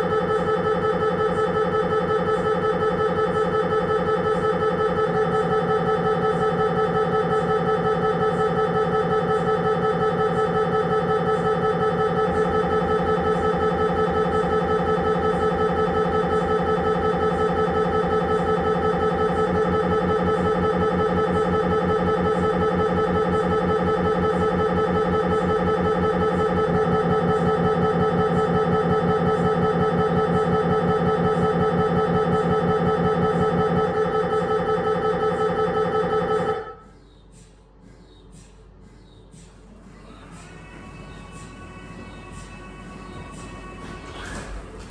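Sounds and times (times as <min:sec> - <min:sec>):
mri scanner pulsing buzz: 0:00.0 - 0:37.3, 0:39.5 - 0:44.9.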